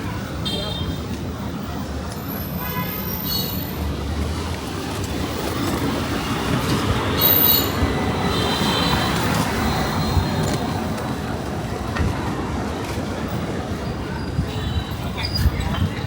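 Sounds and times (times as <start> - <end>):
low rumble of street noise: 0.0 - 16.0.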